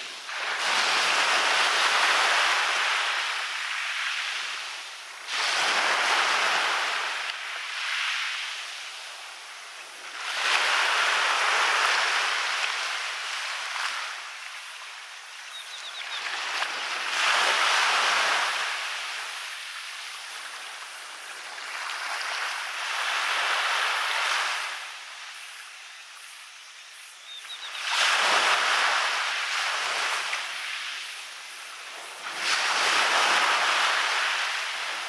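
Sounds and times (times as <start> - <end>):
waves breaking on a beach: 0.0 - 35.0.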